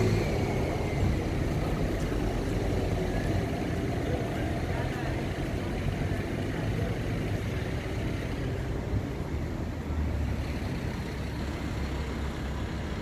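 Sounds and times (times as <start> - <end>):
car engine rumble passing: 0.0 - 13.0
street traffic: 0.0 - 13.0.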